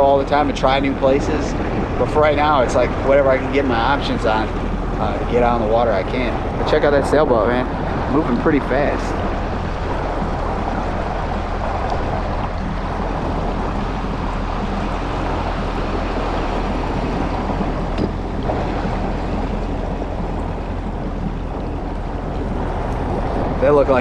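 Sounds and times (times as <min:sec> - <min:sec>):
jet ski engine running: 0:00.0 - 0:24.0
water noise: 0:00.0 - 0:24.0
wind noise: 0:00.0 - 0:24.0.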